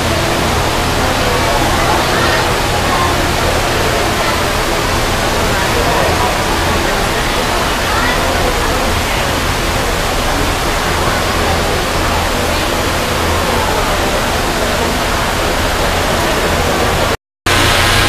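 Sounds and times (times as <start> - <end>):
faint voices: 0.0 - 18.0
loud rushing noise: 0.0 - 18.0.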